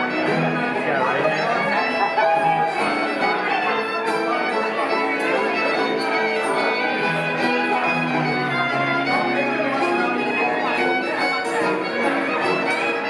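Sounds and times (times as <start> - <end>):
acoustic guitar: 0.0 - 13.0
banjo: 0.0 - 13.0
dobro: 0.0 - 13.0
fiddle long bowed notes: 0.0 - 13.0.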